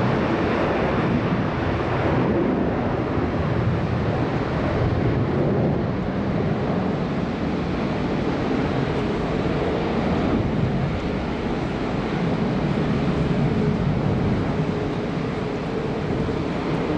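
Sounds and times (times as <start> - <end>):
jet engines rumbling: 0.0 - 16.9.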